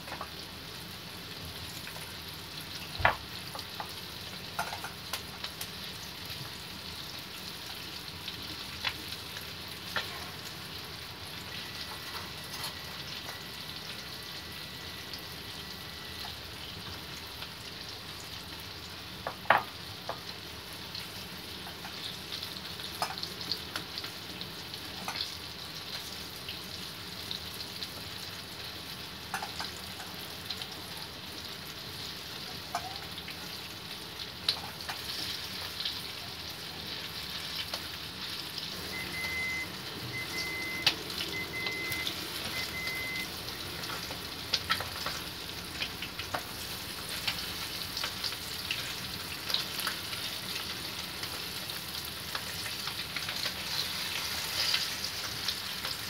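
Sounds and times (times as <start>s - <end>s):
chicken frying in hot oil: 0.0s - 56.0s.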